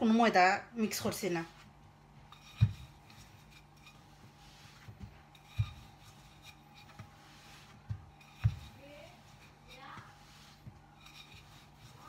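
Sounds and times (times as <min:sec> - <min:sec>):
rolling pin rubbing dough: 0:01.0 - 0:12.0.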